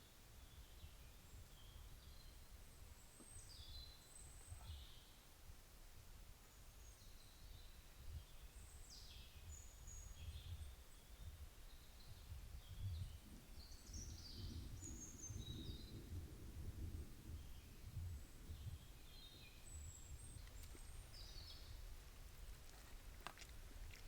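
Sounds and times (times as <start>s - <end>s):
faint birdsong: 0.0s - 24.0s.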